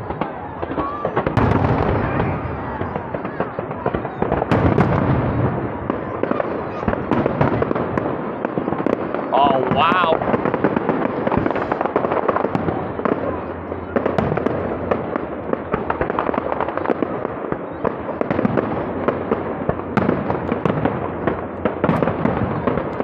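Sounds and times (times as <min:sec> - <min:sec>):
fireworks cracking and banging: 0:00.0 - 0:23.0.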